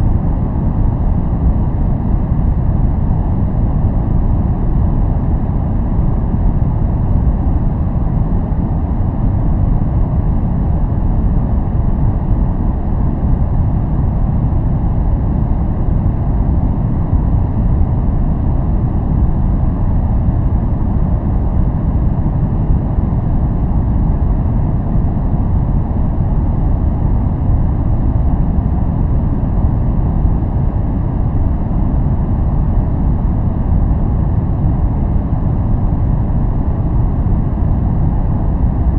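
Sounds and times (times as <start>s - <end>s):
deep-toned white noise: 0.0s - 38.9s.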